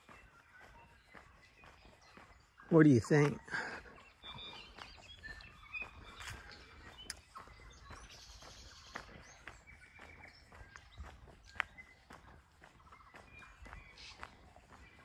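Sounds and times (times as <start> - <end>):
birds whistling: 0.0 - 15.0
footsteps: 0.0 - 15.0.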